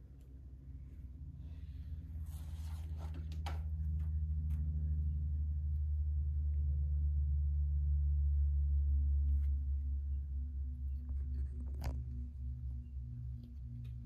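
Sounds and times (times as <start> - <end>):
deep steady hum: 0.0 - 14.0.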